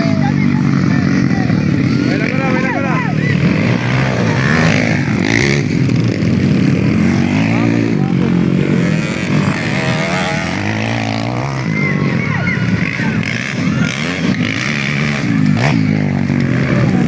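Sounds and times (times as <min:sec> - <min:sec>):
faint voices: 0:00.0 - 0:17.0
motorcycle engines revving: 0:00.0 - 0:17.0.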